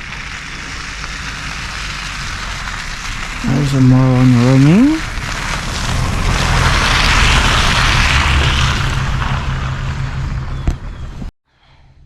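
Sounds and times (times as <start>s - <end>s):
wind buffeting microphone: 1.6s - 11.3s.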